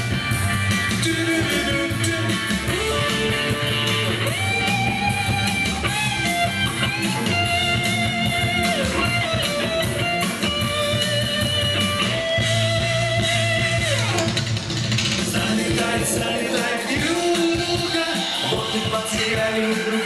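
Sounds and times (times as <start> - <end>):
bass and steady beat: 0.0 - 20.0.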